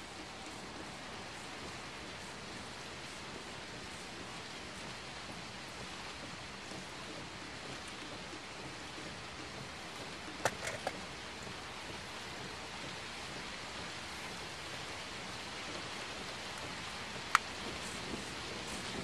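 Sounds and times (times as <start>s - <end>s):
rain on a car roof: 0.0s - 19.0s.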